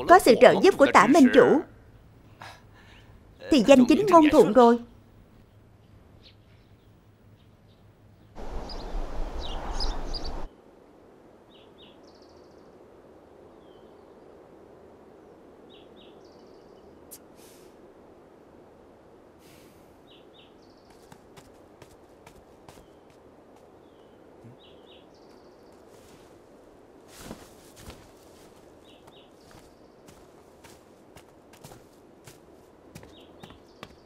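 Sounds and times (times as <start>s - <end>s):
faint outdoor ambience: 0.0s - 34.0s.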